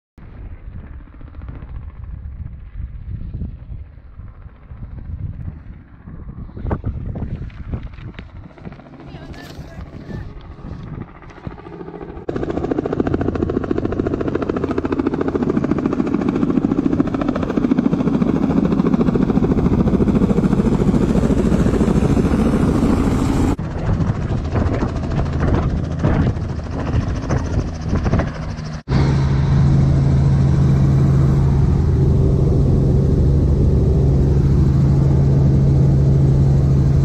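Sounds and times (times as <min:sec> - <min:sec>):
helicopter rotor chopping: 0:00.2 - 0:37.0.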